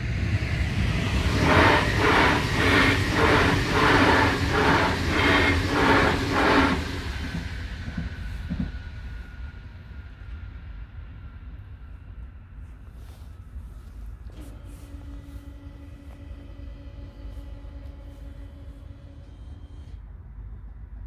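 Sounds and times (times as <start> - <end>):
train wheel noise: 0.0 - 21.0.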